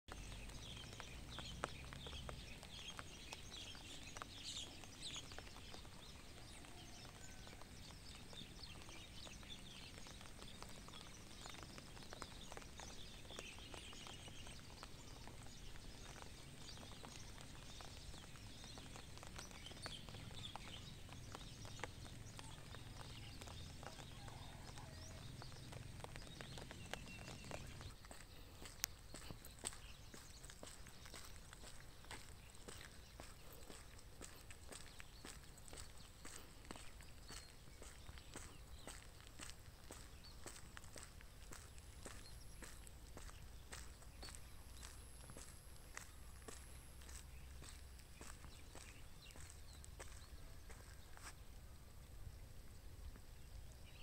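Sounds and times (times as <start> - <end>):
footsteps on concrete: 0.1 - 51.6
small birds chirping: 0.1 - 54.0.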